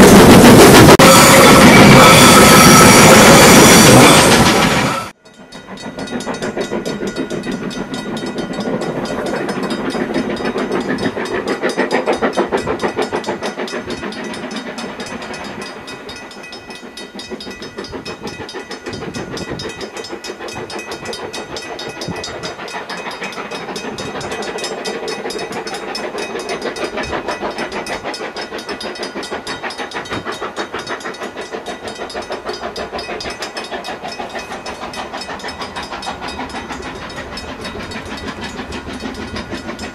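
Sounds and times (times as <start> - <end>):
steam hissing: 0.0 - 39.9
steam locomotive chuffing: 0.0 - 39.9.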